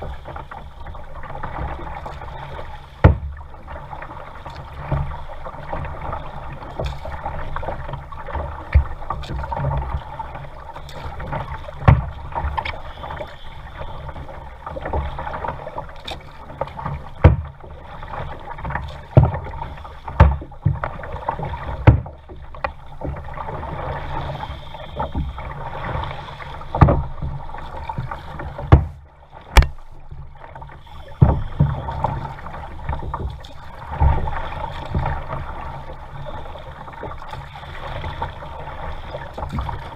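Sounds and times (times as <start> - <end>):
kayak paddle strokes splashing: 0.0 - 39.9
rushing water rumble: 0.0 - 39.9.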